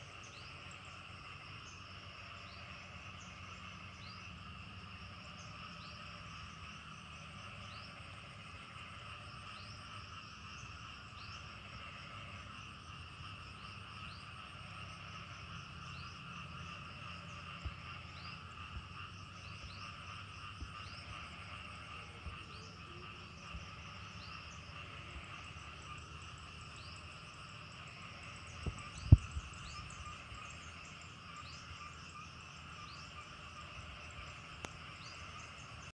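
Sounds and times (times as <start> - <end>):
insects chirring: 0.0 - 35.9.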